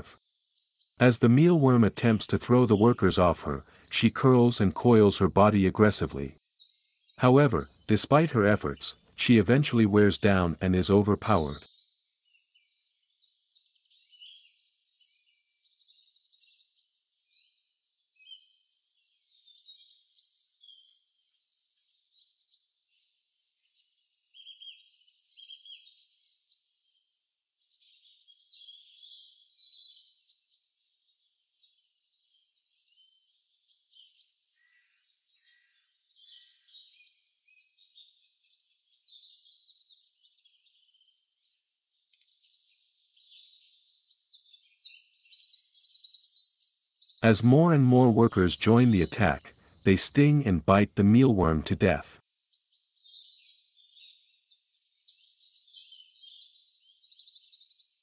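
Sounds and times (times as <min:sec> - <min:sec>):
small birds chirping: 0:00.0 - 0:02.2, 0:02.8 - 0:47.2, 0:50.8 - 0:58.0.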